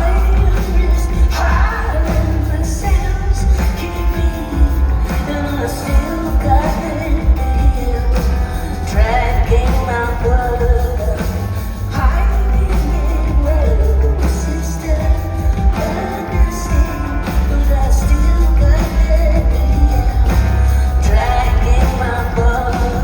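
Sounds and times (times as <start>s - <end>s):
rock band playing: 0.0s - 23.0s
woman singing: 0.0s - 23.0s.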